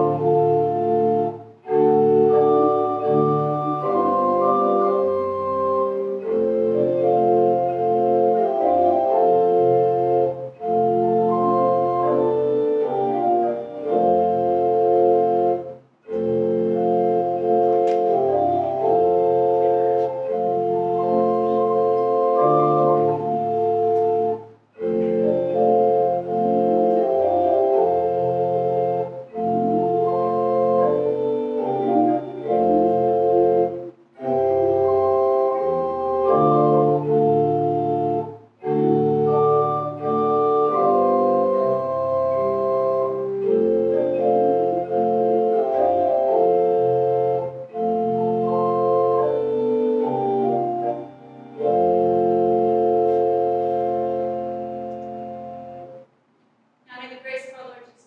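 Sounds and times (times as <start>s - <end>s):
organ playing sustained chords: 0.0s - 56.1s.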